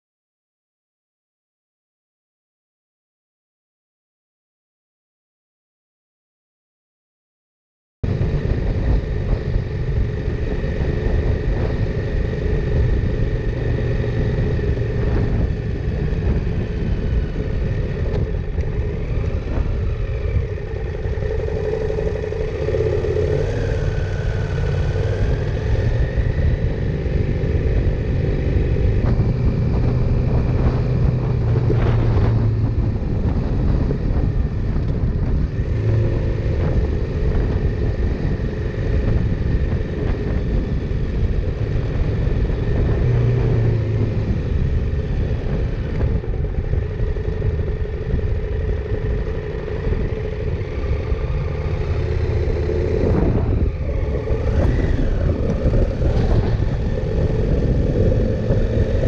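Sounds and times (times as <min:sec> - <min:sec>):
motorcycle engine running: 0:08.0 - 0:59.0
wind and road noise: 0:08.0 - 0:59.0.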